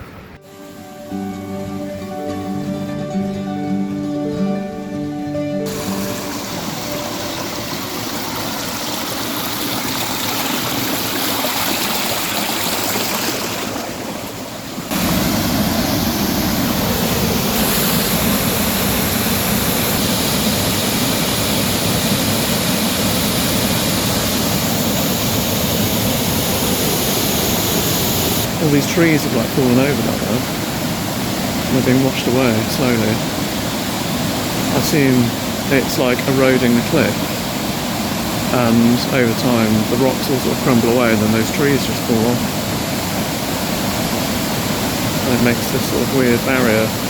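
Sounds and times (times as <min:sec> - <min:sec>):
river water rushing: 0:00.0 - 0:47.0
waterfall rushing: 0:05.2 - 0:47.0.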